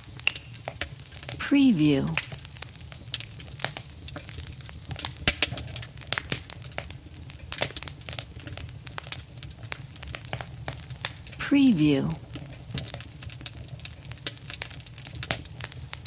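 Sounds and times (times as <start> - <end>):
fire roaring and crackling: 0.0 - 16.0.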